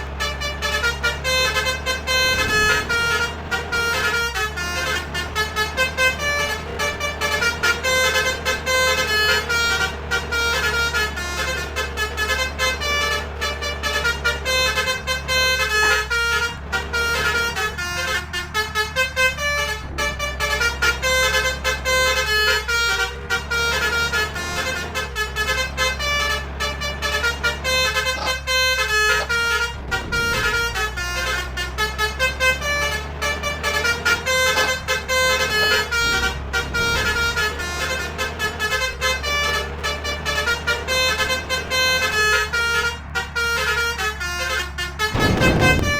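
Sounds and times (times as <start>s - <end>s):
low engine hum: 0.0s - 45.9s
multi-tone musical horn: 0.0s - 45.9s.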